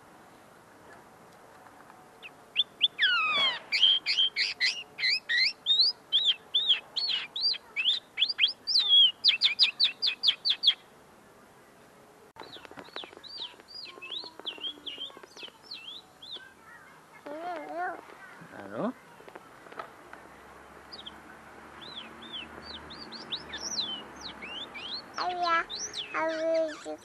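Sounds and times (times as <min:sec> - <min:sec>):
bird twittering song: 0:01.7 - 0:10.9, 0:11.7 - 0:17.3, 0:19.4 - 0:27.0.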